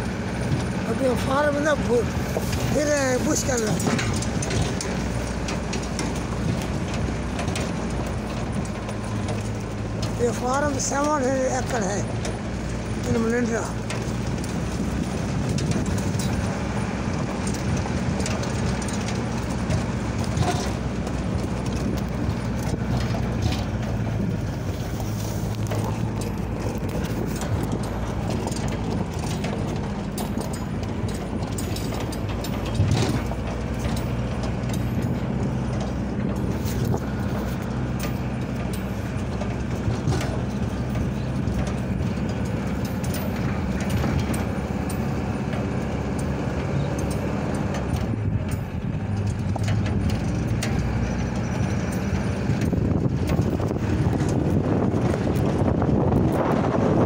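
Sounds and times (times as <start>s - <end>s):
vehicle body rattling and clicking: 0.0s - 57.0s
vehicle engine humming: 0.0s - 57.0s.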